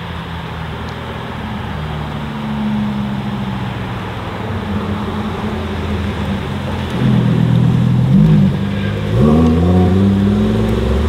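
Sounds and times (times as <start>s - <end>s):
sports car engine at low revs: 0.0s - 11.0s.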